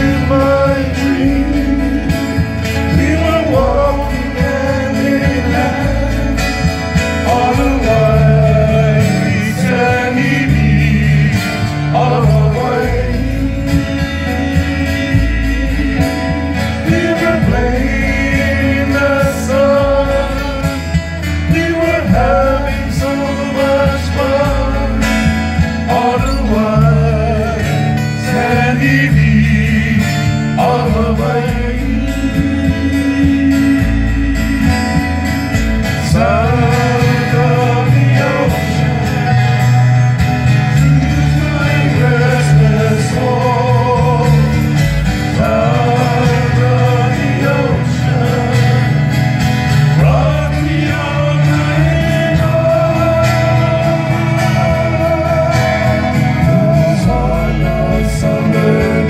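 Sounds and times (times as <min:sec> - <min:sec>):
bass guitar low notes: 0:00.0 - 0:59.0
men singing into microphones: 0:00.0 - 0:59.0
strummed acoustic guitars: 0:00.0 - 0:59.0.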